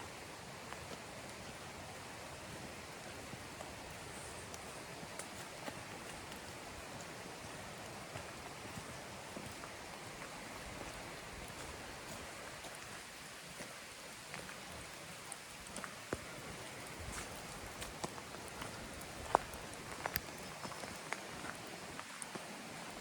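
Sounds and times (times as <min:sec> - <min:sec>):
rain falling in forest: 0:00.0 - 0:23.0
raindrops tapping: 0:02.4 - 0:23.0.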